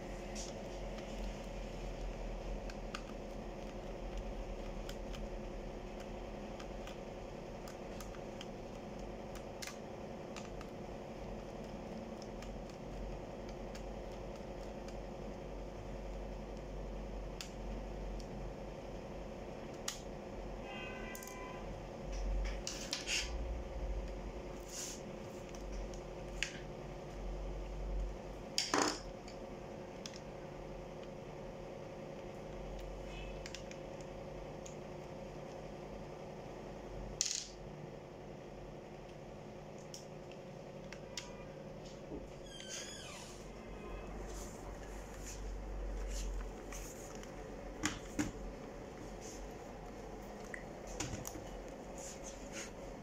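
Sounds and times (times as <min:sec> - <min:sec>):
steady background hum: 0:00.0 - 0:53.0.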